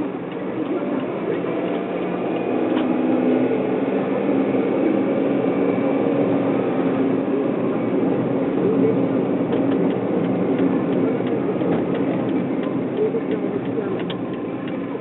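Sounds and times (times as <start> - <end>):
car engine hum: 0.0 - 15.0
road noise inside car: 0.0 - 15.0.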